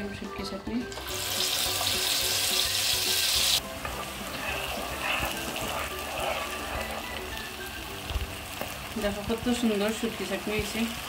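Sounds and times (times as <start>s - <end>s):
paste sizzling in hot oil: 1.0s - 11.0s.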